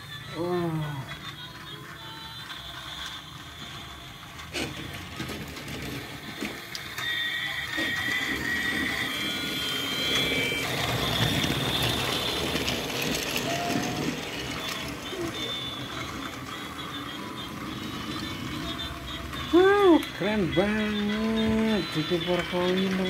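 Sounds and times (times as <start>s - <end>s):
toy train motor whine: 0.0s - 23.0s
rattle of wheels and wagons: 1.6s - 23.0s.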